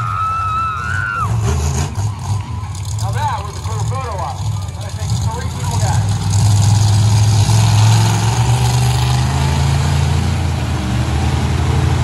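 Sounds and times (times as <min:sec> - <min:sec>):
monster truck engine idling: 0:00.0 - 0:12.0.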